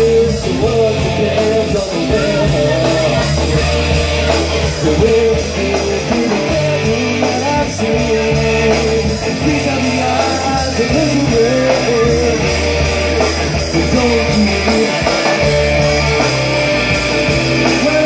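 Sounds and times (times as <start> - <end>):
bass guitar: 0.0 - 18.0
drums with steady cymbal beat: 0.0 - 18.0
electric guitar: 0.0 - 18.0.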